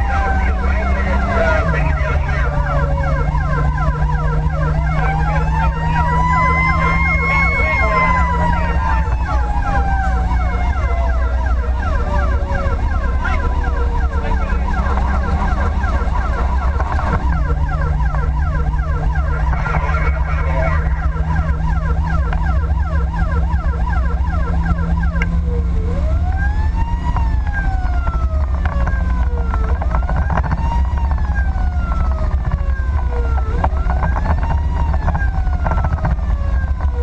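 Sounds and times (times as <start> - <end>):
siren slowly rising and winding down: 0.0 - 37.0
siren sweeping rapidly: 0.0 - 37.0
truck engine drone: 0.0 - 37.0.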